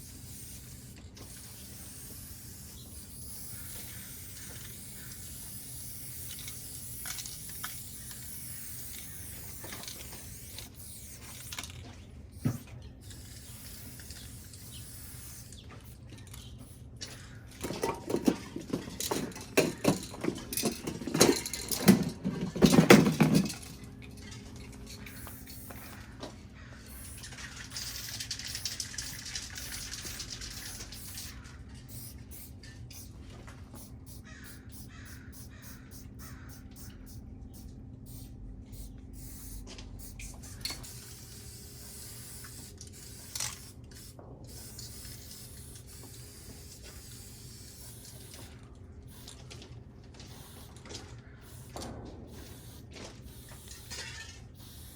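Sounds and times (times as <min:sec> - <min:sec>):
spray paint hiss: 0:00.0 - 0:18.3, 0:24.9 - 0:26.2, 0:26.8 - 0:49.5, 0:50.2 - 0:50.8, 0:51.4 - 0:54.9
spray can ball rattling: 0:00.0 - 0:26.0, 0:26.9 - 0:33.1, 0:33.8 - 0:37.0, 0:37.6 - 0:49.6, 0:50.2 - 0:54.9.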